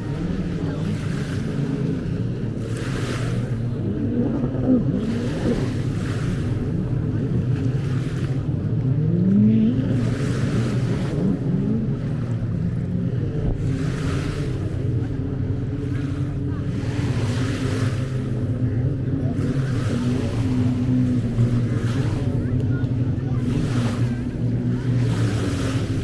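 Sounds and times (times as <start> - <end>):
boat engines droning: 0.0 - 26.0
sea waves washing onto beach: 0.0 - 26.0.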